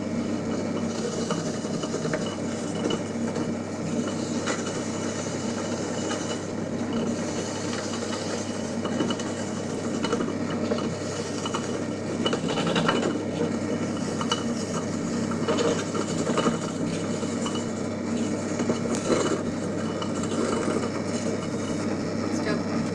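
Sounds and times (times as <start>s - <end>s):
grinder motor humming: 0.0s - 22.9s.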